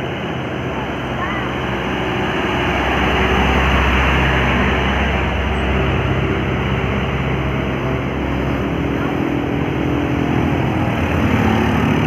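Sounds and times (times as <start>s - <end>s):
heavy vehicle passing: 0.0s - 12.0s.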